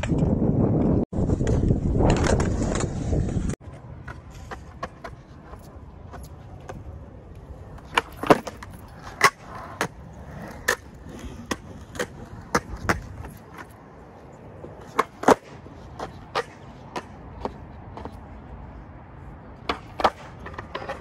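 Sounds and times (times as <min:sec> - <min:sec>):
skateboard clacking on ground: 0:00.0 - 0:18.4, 0:19.4 - 0:21.0
skateboard wheels rolling on concrete: 0:00.0 - 0:21.0.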